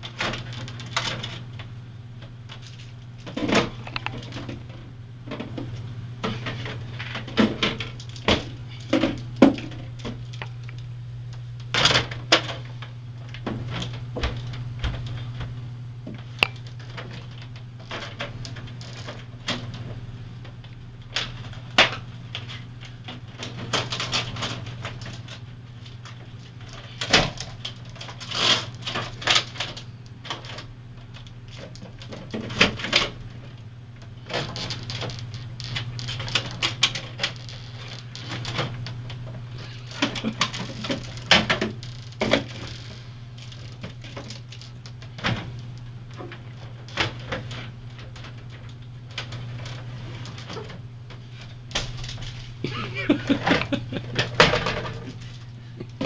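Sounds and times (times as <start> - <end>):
plastic bottles rattling in fridge: 0.0 - 10.8, 11.6 - 56.0
fridge hum: 0.0 - 56.0.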